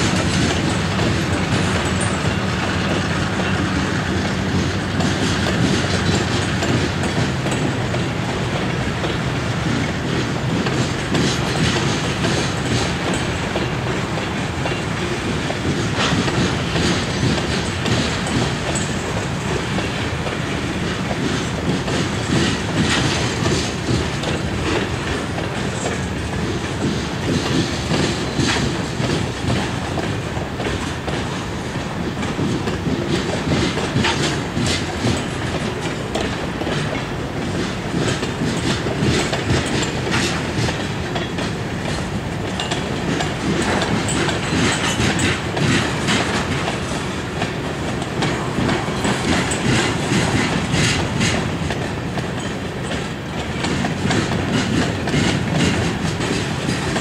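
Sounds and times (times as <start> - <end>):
train wheels clacking on rails: 0.0 - 57.0.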